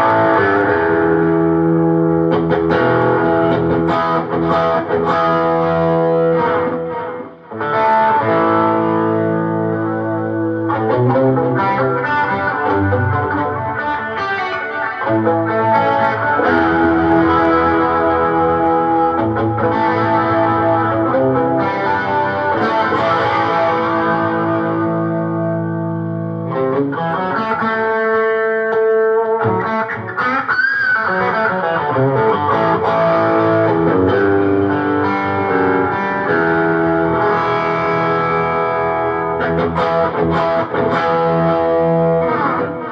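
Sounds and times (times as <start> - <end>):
electric guitar chords: 0.0 - 42.9
guitar single notes with bend: 0.0 - 42.9.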